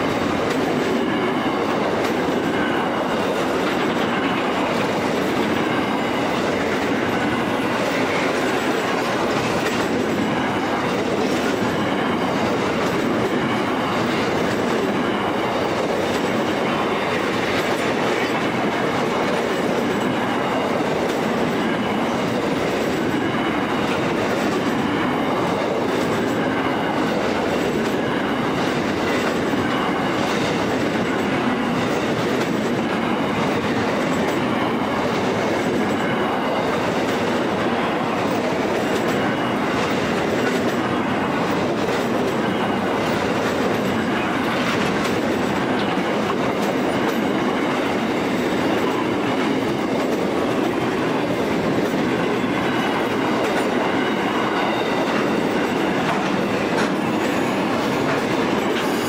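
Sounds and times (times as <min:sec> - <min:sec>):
freight train rumble and clatter: 0:00.0 - 0:59.0.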